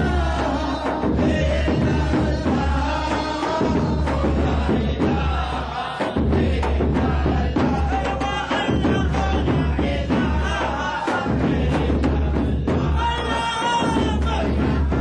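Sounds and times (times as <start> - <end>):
drum beats: 0.0 - 15.0
men chanting a devotional song: 0.0 - 15.0.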